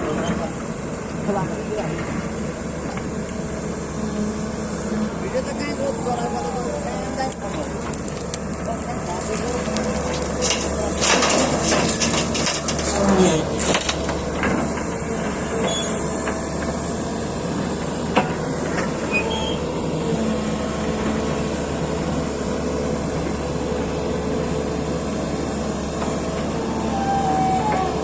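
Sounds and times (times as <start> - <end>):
excavator engine and hydraulics: 0.0 - 28.0.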